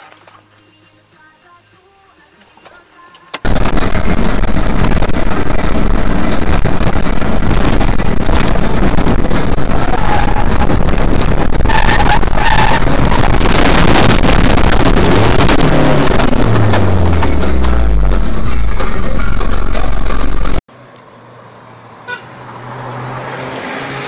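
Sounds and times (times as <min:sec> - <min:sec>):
car road and wind rumble: 0:03.3 - 0:24.0.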